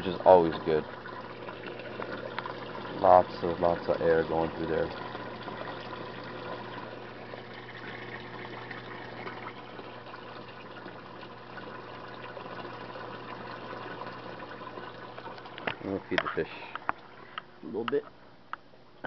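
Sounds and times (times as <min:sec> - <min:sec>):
aerated water pouring into tank: 0:00.0 - 0:17.5
low steady hum: 0:00.0 - 0:19.0.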